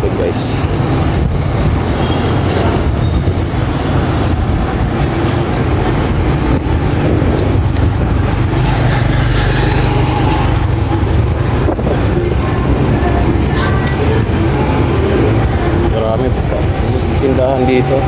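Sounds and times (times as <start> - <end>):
road and traffic noise: 0.0 - 18.0
vehicle engine running: 0.9 - 17.1.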